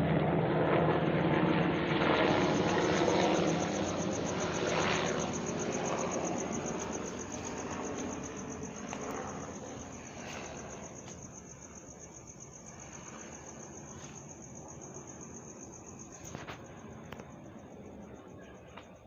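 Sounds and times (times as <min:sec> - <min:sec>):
helicopter rumble: 0:00.0 - 0:19.0
cricket trilling: 0:01.4 - 0:19.0.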